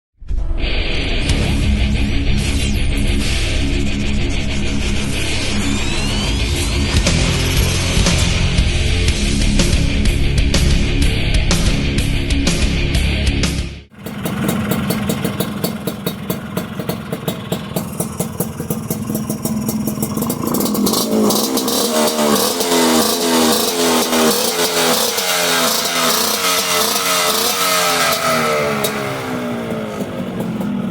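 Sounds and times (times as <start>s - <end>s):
motorcycle engine revving: 1.3s - 12.7s, 13.8s - 30.9s.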